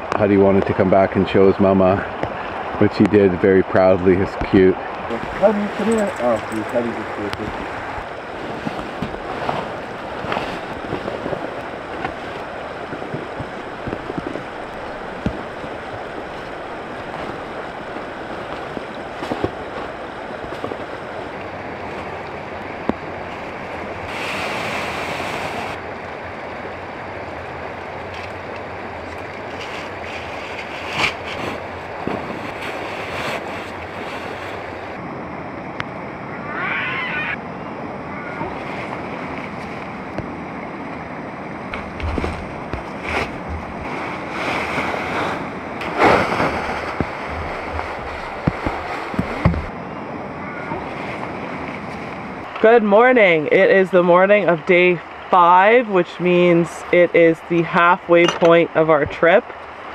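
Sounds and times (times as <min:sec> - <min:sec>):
fast river rushing: 0:00.0 - 0:59.9.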